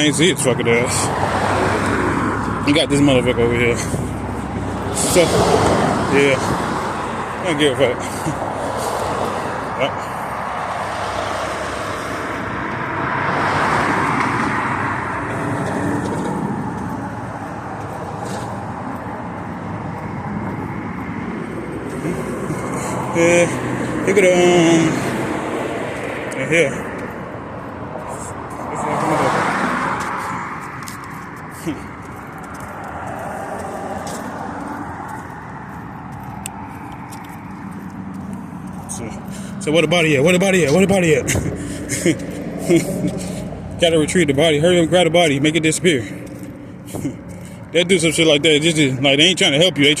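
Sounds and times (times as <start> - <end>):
cars passing: 0.0 - 50.0.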